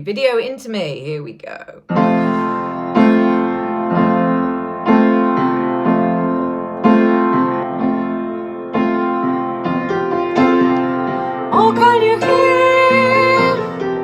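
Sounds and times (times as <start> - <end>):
piano chords ringing: 1.9 - 14.0.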